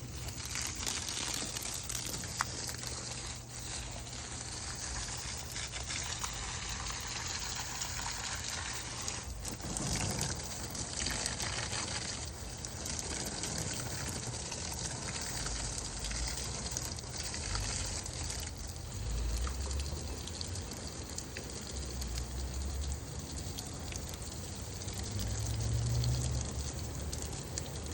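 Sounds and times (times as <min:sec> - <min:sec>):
water gushing and splashing: 0:00.0 - 0:27.9.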